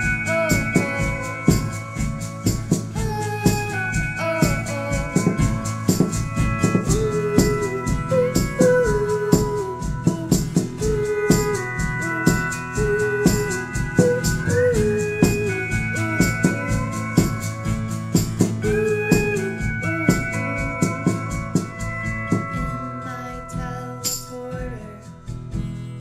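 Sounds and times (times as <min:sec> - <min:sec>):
maraca and drum beat: 0:00.0 - 0:25.8
acoustic guitar chords: 0:00.0 - 0:26.0
pedal steel guitar melody: 0:00.0 - 0:26.0.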